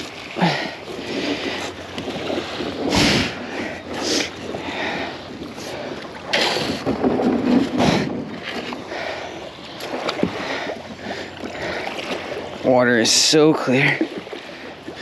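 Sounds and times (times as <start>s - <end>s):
kayak moving through water: 0.0s - 15.0s
water swishes: 0.0s - 15.0s.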